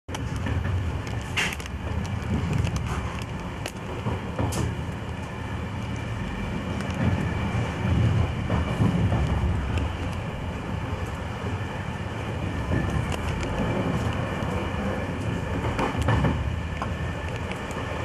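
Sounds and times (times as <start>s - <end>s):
wheels rumbling on rails: 0.1s - 18.0s.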